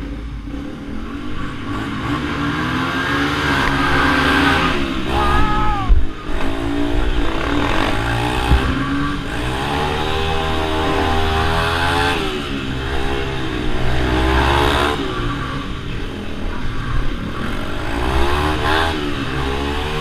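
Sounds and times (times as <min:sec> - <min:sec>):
minibike engines revving: 0:00.0 - 0:20.0.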